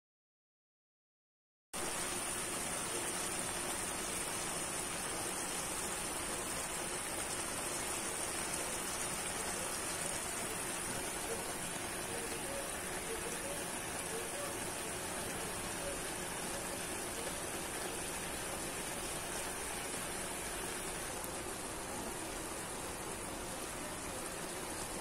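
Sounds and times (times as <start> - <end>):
greens sizzling in a wok: 1.8 - 25.0.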